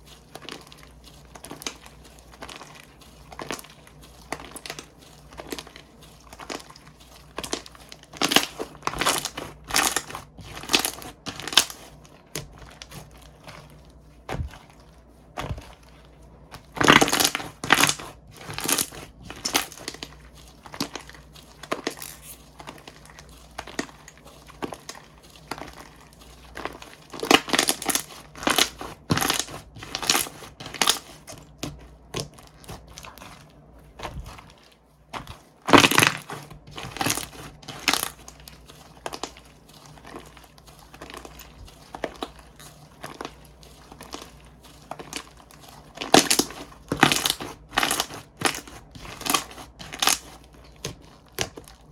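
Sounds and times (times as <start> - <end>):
slime clicking and squishing: 0.0 - 51.9.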